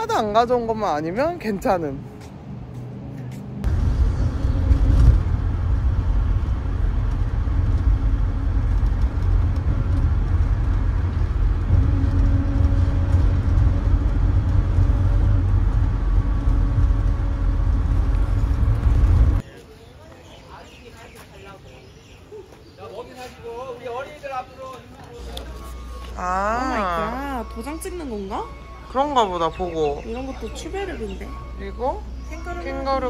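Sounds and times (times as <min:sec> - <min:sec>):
vehicle engine and road rumble: 0:00.0 - 0:19.5, 0:24.8 - 0:33.0.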